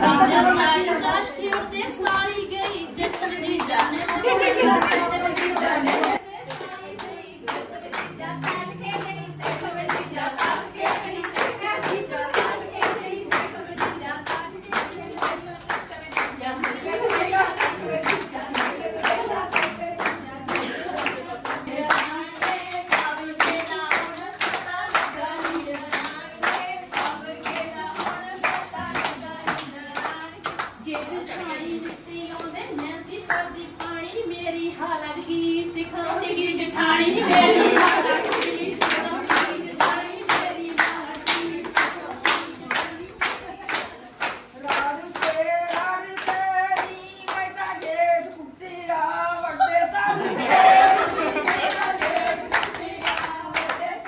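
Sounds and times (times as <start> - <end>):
voices singing: 0.0 - 54.0
hands clapping in rhythm: 1.3 - 34.1, 36.8 - 48.3, 50.4 - 54.0.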